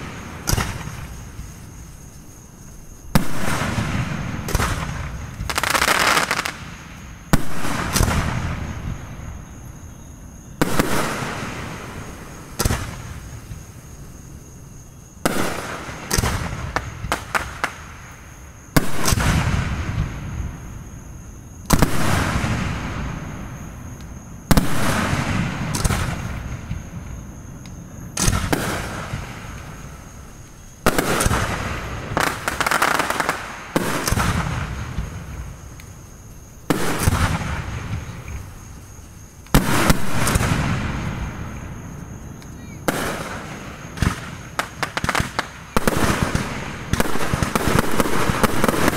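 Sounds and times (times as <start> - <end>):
firework crackles: 0.0 - 9.4, 10.4 - 20.9, 21.6 - 48.9
fireworks bursting with echo: 0.0 - 14.2, 15.2 - 20.9, 21.6 - 48.9.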